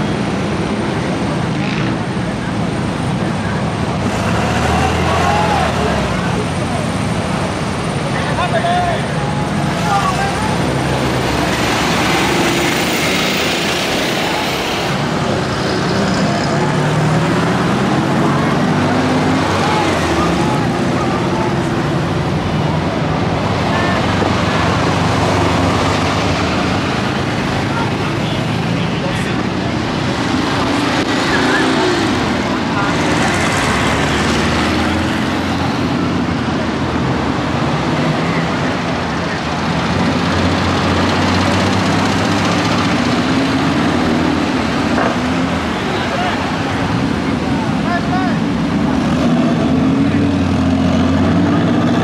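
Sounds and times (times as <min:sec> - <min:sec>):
motorcycle engines rumbling: 0:00.0 - 0:52.0.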